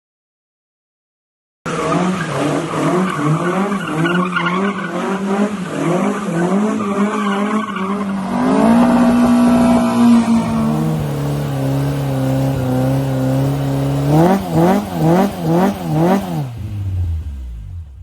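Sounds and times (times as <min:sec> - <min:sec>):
car engine revving: 0:01.7 - 0:18.0.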